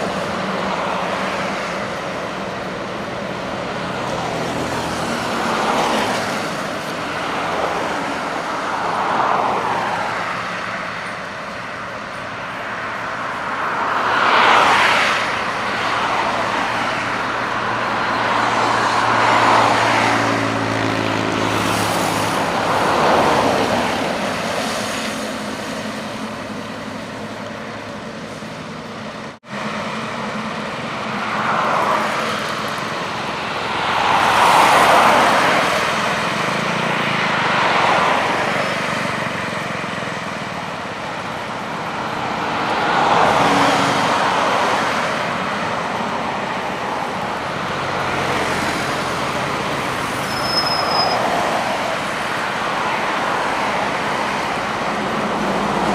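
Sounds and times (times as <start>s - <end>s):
highway traffic passing: 0.0s - 55.9s.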